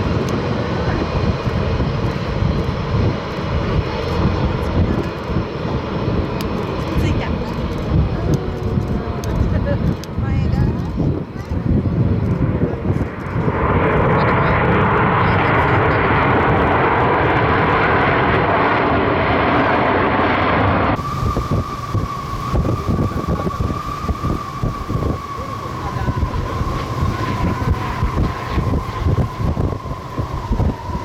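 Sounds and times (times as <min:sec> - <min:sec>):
jet engine whine: 0:00.0 - 0:31.0
jet plane passing: 0:00.0 - 0:31.0
wind buffeting microphone: 0:00.0 - 0:31.0.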